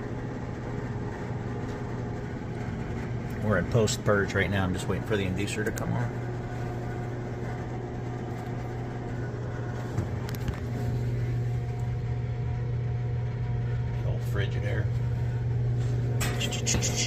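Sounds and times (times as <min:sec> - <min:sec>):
furnace motor hum: 0:00.0 - 0:17.0.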